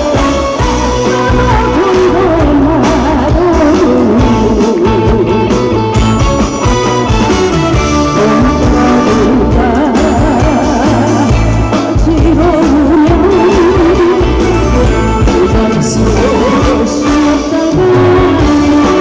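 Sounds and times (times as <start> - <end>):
woman singing into microphone: 0.0 - 5.6, 8.1 - 19.0
loud backing music: 0.0 - 19.0.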